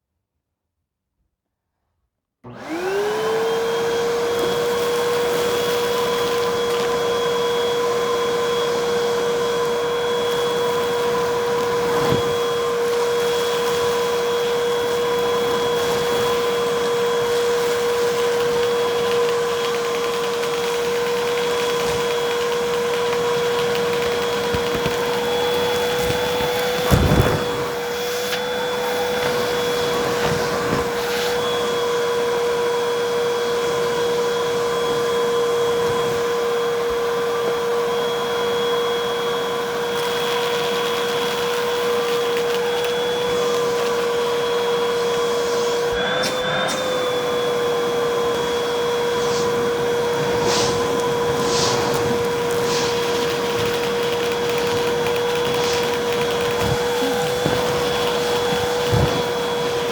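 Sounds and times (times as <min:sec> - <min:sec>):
vacuum cleaner motor whining: 0:02.4 - 0:59.9.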